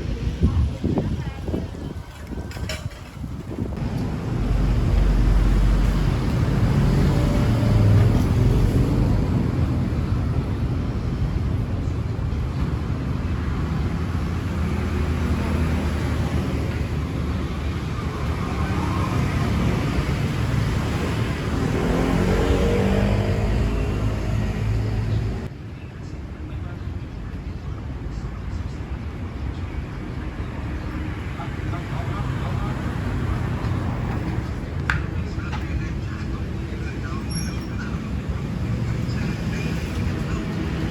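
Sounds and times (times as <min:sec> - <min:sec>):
motorbike and car engines: 0:00.0 - 0:25.5, 0:30.1 - 0:40.9.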